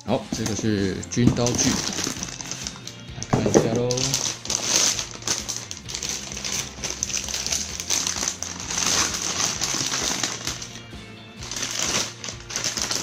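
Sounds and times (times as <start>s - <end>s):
packaging crinkling and rustling: 0.3s - 10.8s, 11.4s - 13.0s.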